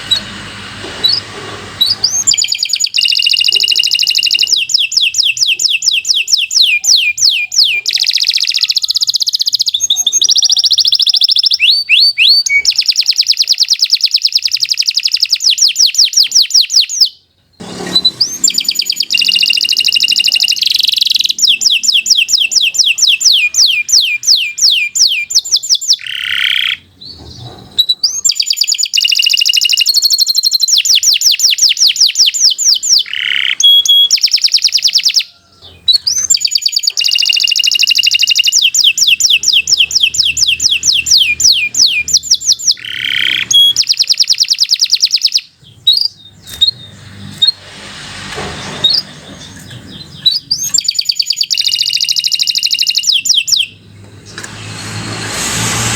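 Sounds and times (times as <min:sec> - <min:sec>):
bird chirps: 0:01.8 - 0:47.6, 0:48.9 - 0:54.4
canary singing trills: 0:01.8 - 0:47.6, 0:48.8 - 0:54.4.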